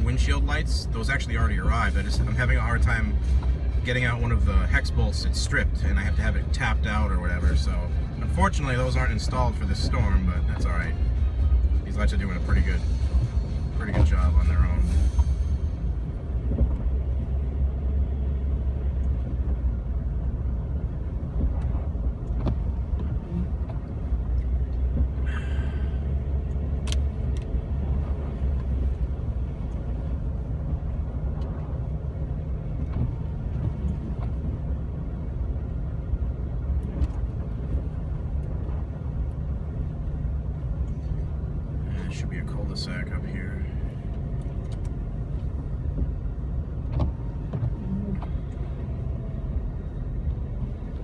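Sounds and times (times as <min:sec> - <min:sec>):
engine and tyres rumbling: 0:00.0 - 0:51.0.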